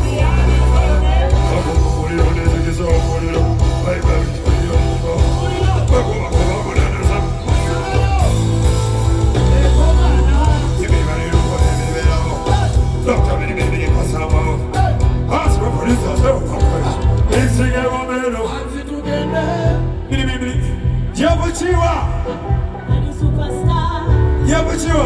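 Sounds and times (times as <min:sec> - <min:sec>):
band music: 0:00.0 - 0:25.0
heavy bass line: 0:00.0 - 0:25.0
person singing: 0:00.0 - 0:25.0.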